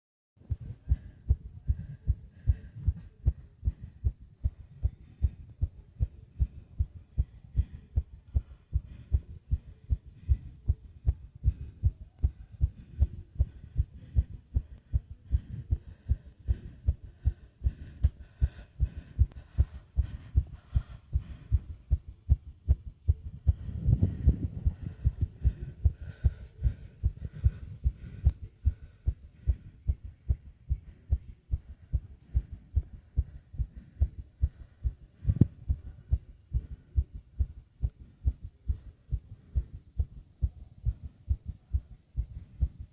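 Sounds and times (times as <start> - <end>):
fast heartbeat thumps: 0.4 - 42.9
heavy breathing: 0.4 - 42.9.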